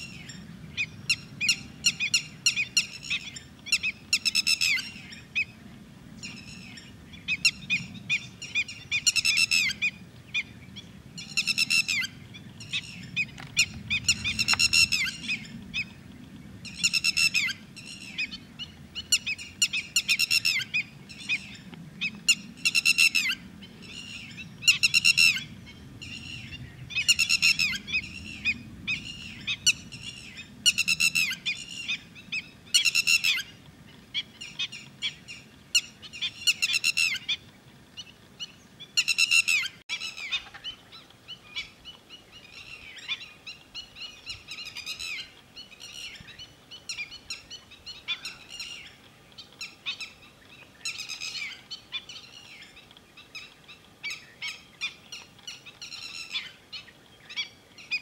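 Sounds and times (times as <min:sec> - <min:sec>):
lapwing calling: 0:00.0 - 0:05.6, 0:06.2 - 0:16.0, 0:16.6 - 0:58.0.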